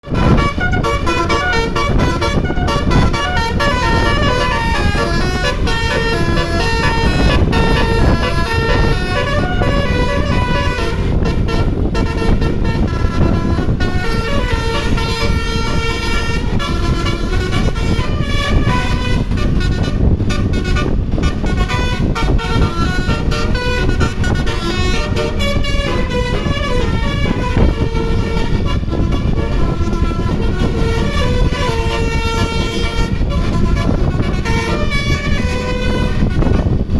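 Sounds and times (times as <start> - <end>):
musical air horn melody: 0.0 - 36.9
steady low rumble: 0.0 - 36.9.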